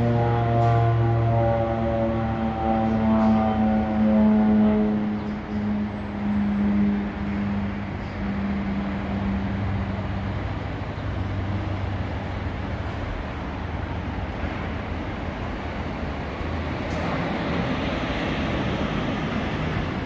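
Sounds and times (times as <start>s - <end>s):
turboprop engines at takeoff: 0.0s - 20.0s.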